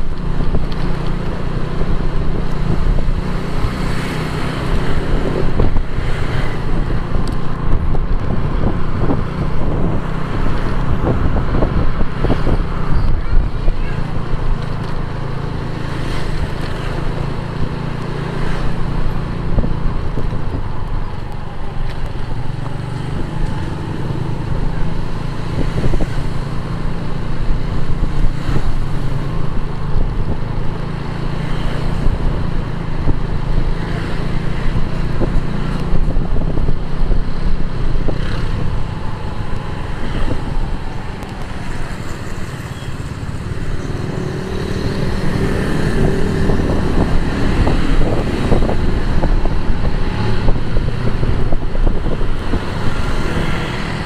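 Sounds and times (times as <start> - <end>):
motorcycle engine running: 0.0 - 54.0
road traffic noise: 0.0 - 54.0.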